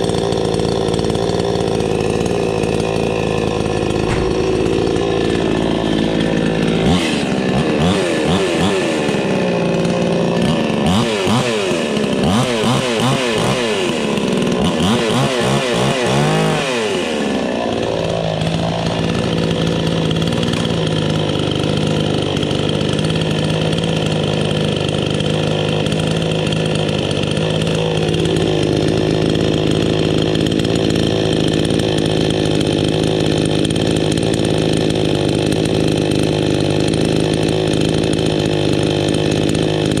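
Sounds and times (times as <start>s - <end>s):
chainsaw revving and idling: 0.0s - 40.0s.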